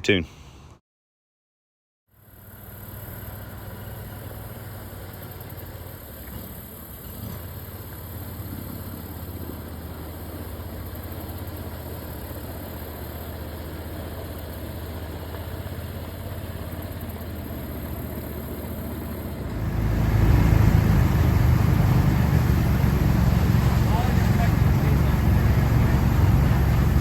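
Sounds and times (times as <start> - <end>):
boat motor running: 2.4 - 27.0.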